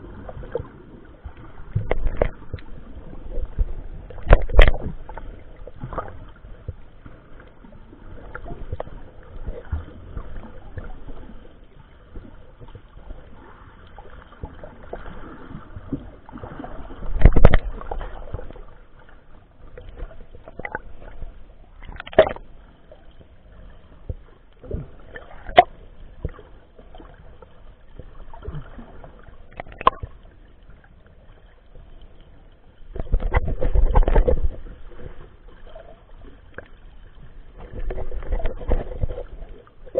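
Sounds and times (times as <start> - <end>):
rush of water: 0.0 - 23.2, 23.8 - 32.0, 32.7 - 39.9.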